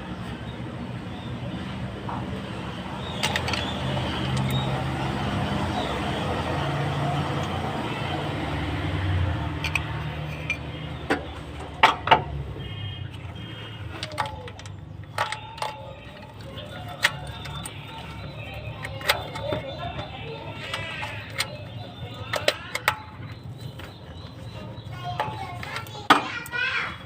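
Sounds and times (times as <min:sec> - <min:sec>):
motor vehicle rumble: 0:00.0 - 0:27.0.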